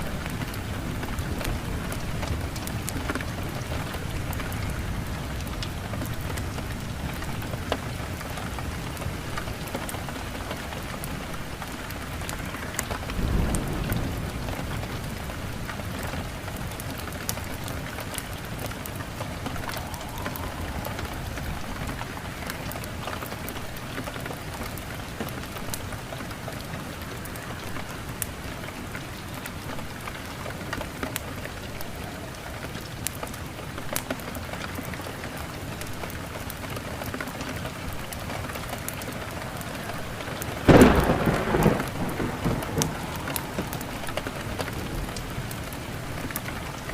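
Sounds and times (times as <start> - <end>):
low rumble of thunder: 0.0 - 31.0, 37.6 - 46.9
heavy rain: 0.0 - 46.9
wood fire crackling: 0.0 - 46.9.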